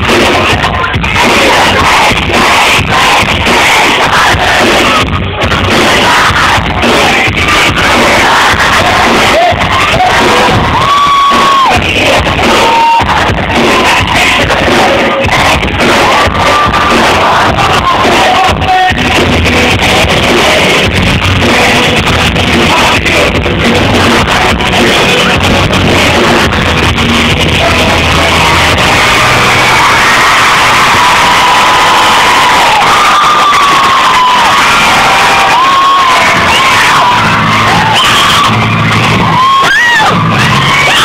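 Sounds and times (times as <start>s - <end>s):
live rock band playing: 0.0s - 41.0s
singer holding long notes: 0.0s - 41.0s.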